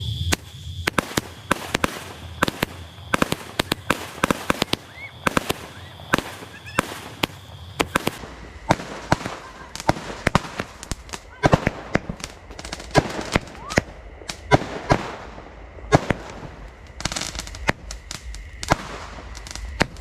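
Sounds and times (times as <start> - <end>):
fireworks sharp bangs: 0.0 - 20.0.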